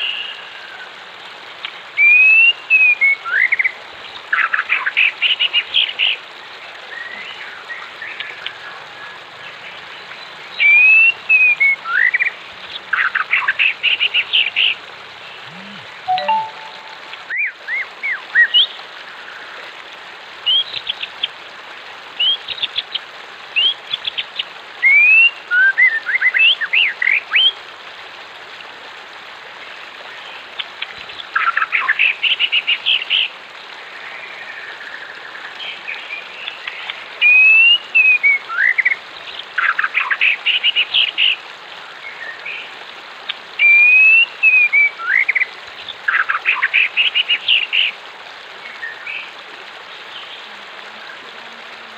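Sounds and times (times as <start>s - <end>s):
flowing water: 0.0s - 51.9s.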